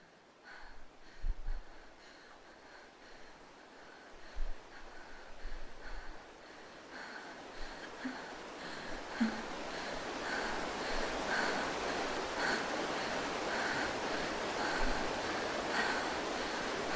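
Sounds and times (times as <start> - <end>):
steady rain: 0.0 - 16.9.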